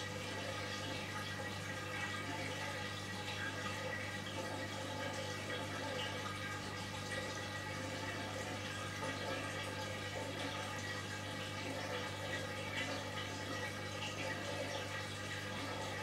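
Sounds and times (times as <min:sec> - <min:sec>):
washing machine humming: 0:00.0 - 0:16.0
water running: 0:00.0 - 0:16.0.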